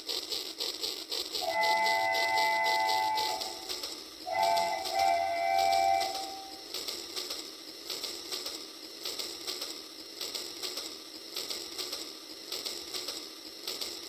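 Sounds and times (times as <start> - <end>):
toy train motor clicking: 0.0 - 14.0.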